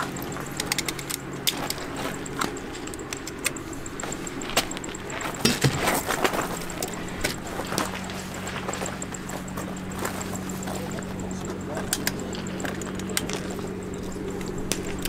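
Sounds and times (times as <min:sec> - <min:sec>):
gravel crunching: 0:00.0 - 0:15.0
rifle gear clicking and knocking: 0:00.0 - 0:15.0.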